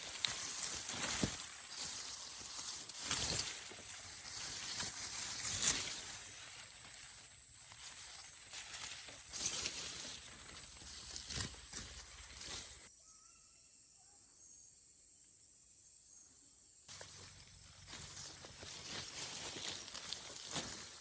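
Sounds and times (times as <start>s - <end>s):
rustling through dry vegetation: 0.0s - 12.9s, 16.9s - 21.0s.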